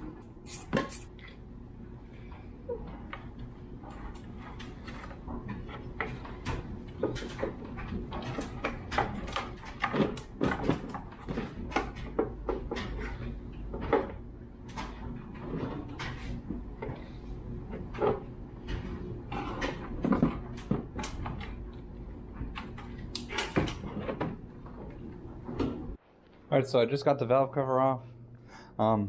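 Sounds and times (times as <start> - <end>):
steady low hum: 0.0 - 29.0
clicks knocks and scraping: 2.3 - 26.0.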